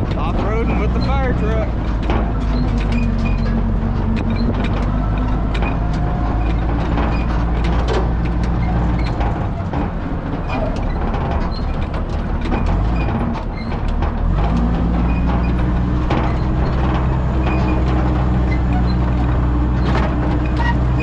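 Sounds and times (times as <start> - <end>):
truck body rattling and clanking: 0.0 - 21.0
truck engine running: 0.0 - 21.0.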